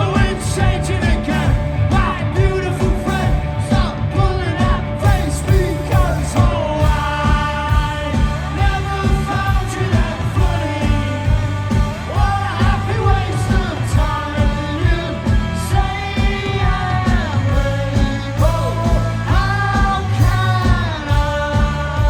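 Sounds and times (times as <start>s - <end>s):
fast steady drumbeat: 0.0s - 22.0s
person singing: 0.0s - 22.0s
rock band playing: 0.0s - 22.0s.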